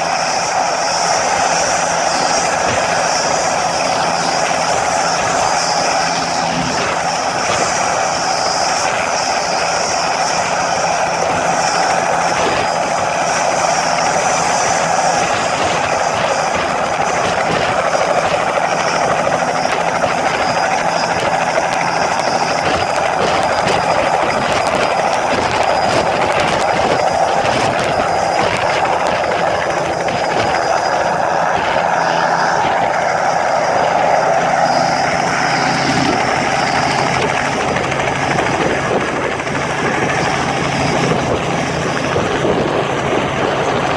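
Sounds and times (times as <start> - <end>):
helicopter rotor noise: 0.0 - 43.9
helicopter turbine whine: 0.0 - 43.9.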